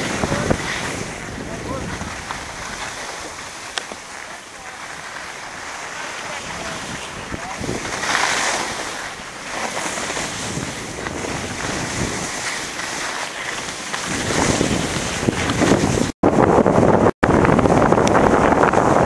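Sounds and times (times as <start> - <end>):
skis scraping over snow: 0.0 - 16.2
wind rushing on microphone: 0.0 - 19.0.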